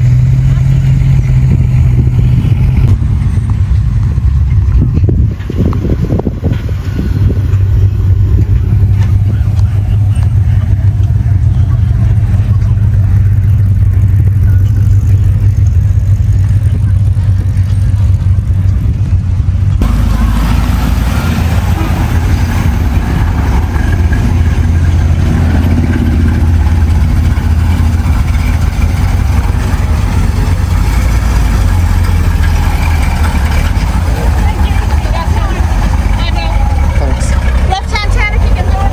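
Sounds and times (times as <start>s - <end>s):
car engines rumbling and revving: 0.0s - 38.9s.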